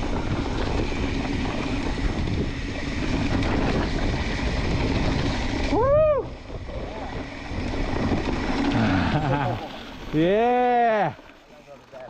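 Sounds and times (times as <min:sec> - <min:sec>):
wind rushing over microphone: 0:00.0 - 0:10.4
mountain bike rolling over rock: 0:00.0 - 0:12.0.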